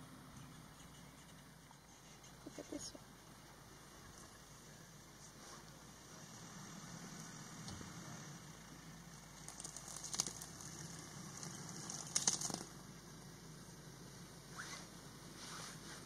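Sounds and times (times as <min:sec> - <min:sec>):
steady low hiss: 0:00.0 - 0:16.0
faint crackling rustles: 0:00.4 - 0:12.8, 0:14.5 - 0:16.0.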